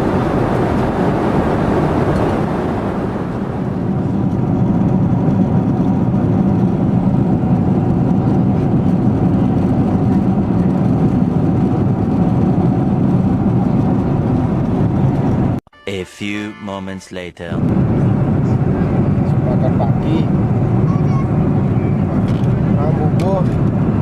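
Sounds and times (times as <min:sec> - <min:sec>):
vehicle engine drone: 0:00.0 - 0:15.6, 0:17.4 - 0:24.0.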